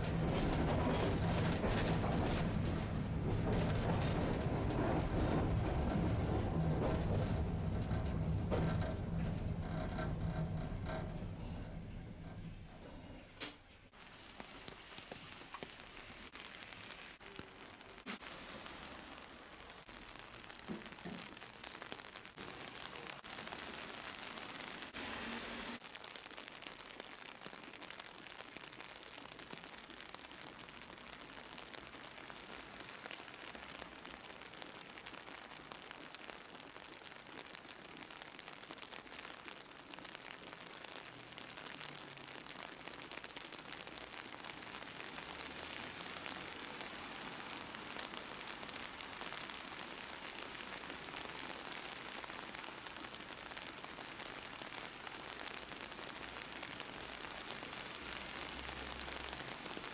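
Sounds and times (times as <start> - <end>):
rain on an umbrella: 0.0 - 59.9.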